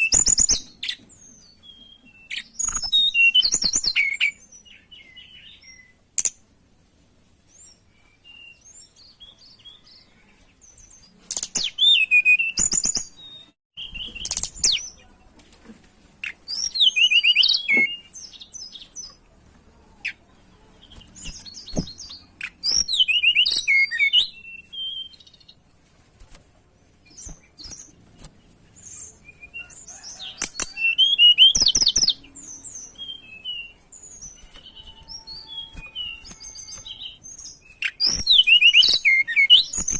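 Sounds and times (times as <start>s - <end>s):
soft bird chirps: 0.0s - 6.4s, 7.4s - 15.4s, 16.2s - 39.9s.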